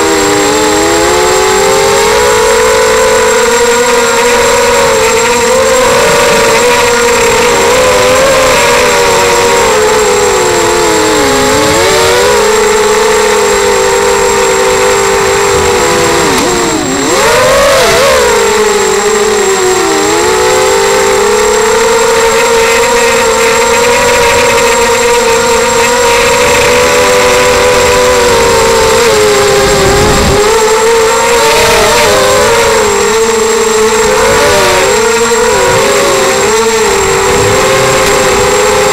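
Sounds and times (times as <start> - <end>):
quadcopter motors buzzing whine: 0.0 - 38.9.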